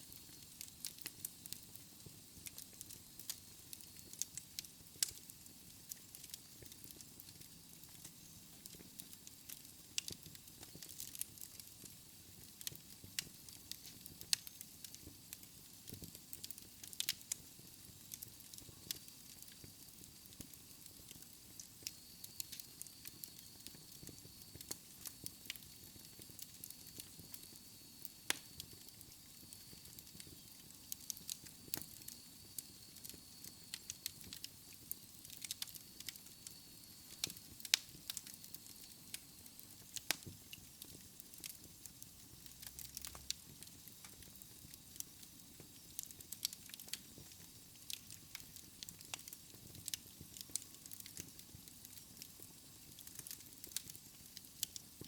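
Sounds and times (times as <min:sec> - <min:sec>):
soft hiss: 0:00.0 - 0:55.0
wood fire crackling: 0:00.0 - 0:55.0
sharp pops and snaps: 0:00.1 - 0:55.0.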